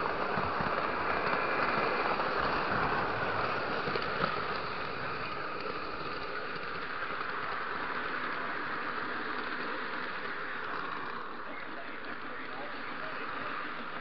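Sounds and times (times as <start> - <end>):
model train rumbling on track: 0.0 - 14.0.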